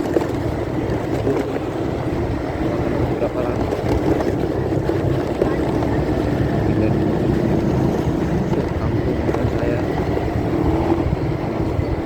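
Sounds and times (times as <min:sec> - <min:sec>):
muffled motorcycle engine and wind: 0:00.0 - 0:12.0.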